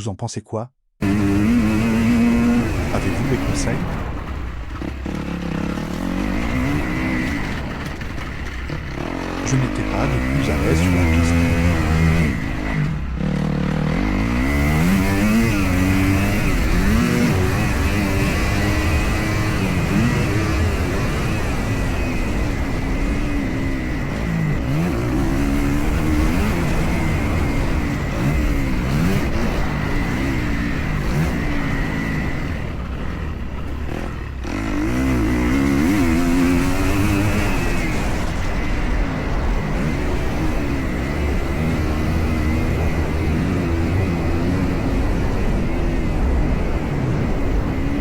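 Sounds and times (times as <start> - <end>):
motocross engine revving: 1.0 - 48.0.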